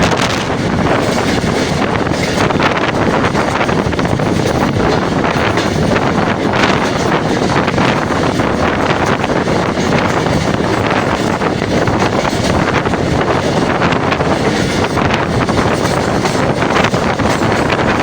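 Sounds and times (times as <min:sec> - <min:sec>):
train rumbling and rattling: 0:00.0 - 0:18.0
wind buffeting microphone: 0:00.0 - 0:18.0.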